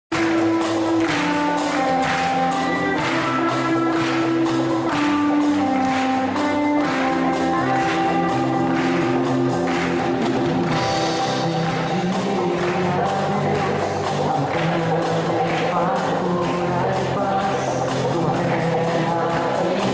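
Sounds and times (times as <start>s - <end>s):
drums and light percussion: 0.1s - 19.9s
guitar: 0.1s - 19.9s.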